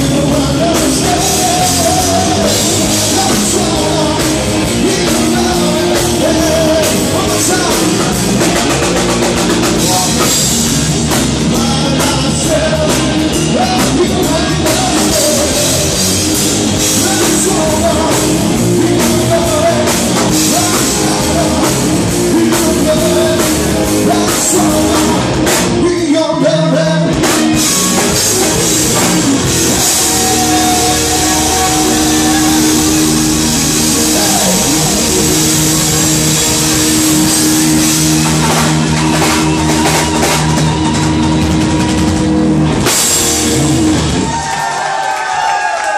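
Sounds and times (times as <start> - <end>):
man singing: 0.0 - 39.3
live rock band playing: 0.0 - 45.2.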